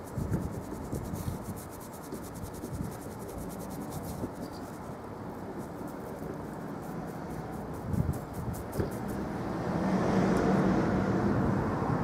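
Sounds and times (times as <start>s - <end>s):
paintbrush scratching on wood: 0.0s - 9.6s.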